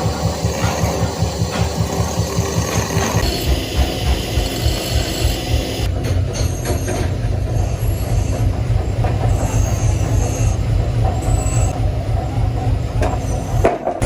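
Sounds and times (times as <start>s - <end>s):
machinery low rumble: 0.0s - 14.0s.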